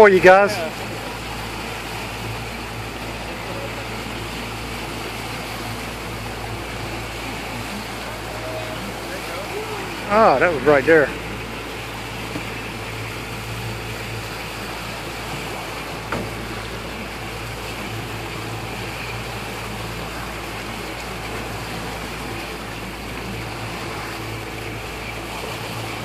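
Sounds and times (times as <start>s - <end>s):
boat engine idling: 0.0s - 26.0s
water wash: 0.0s - 26.0s
wind: 0.0s - 26.0s.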